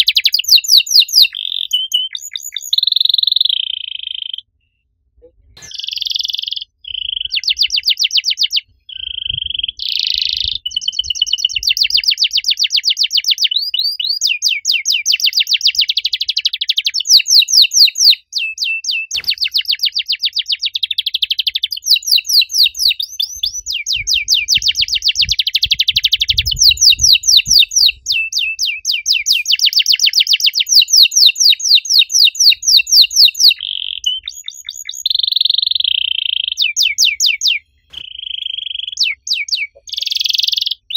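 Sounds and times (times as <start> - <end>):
canary singing trills: 0.0 - 4.5, 5.6 - 40.9.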